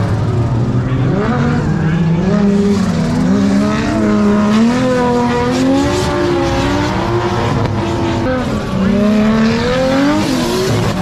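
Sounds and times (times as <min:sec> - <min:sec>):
car engine revving hard: 0:01.0 - 0:11.0.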